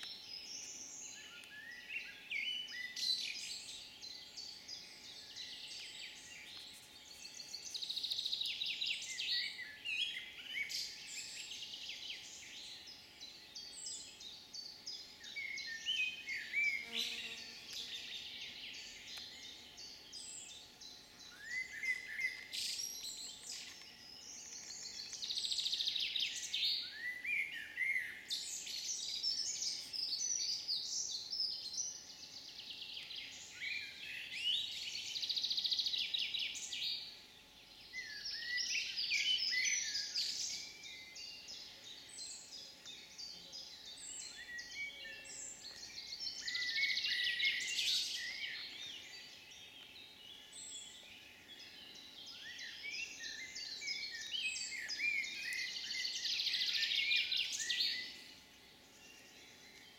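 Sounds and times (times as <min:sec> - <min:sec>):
faint background hiss: 0:00.0 - 0:59.9
songbirds singing: 0:00.0 - 0:59.9.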